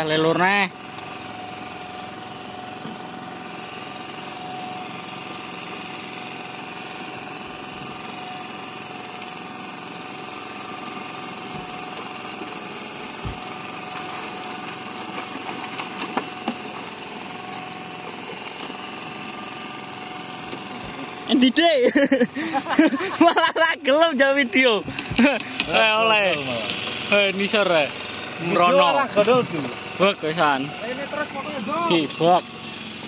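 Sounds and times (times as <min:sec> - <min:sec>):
small boat engine humming: 0:00.0 - 0:33.0.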